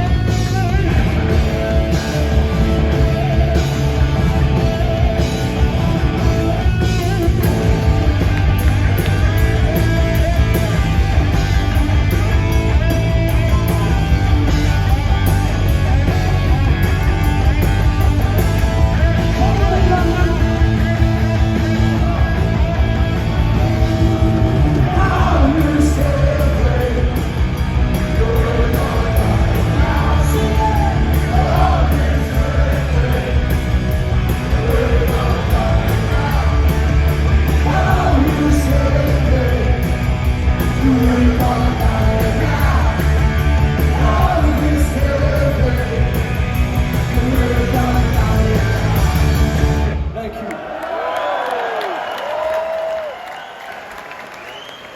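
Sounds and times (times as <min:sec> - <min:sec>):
live punk rock band: 0:00.0 - 0:50.2
shouted lead vocals: 0:00.0 - 0:53.3.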